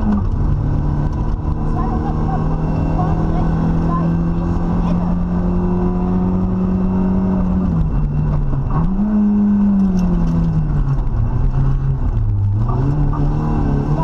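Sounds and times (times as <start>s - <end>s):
rally car engine: 0.0s - 14.0s
road and wind noise: 0.0s - 14.0s.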